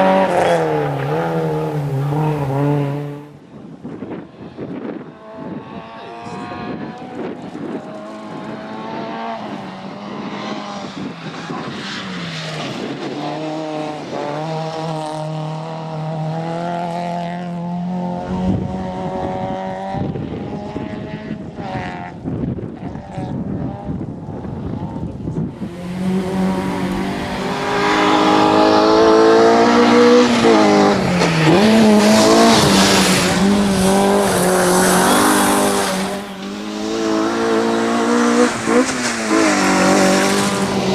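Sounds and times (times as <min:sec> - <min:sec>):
rally car engine revving: 0:00.0 - 0:03.4, 0:04.4 - 0:40.9.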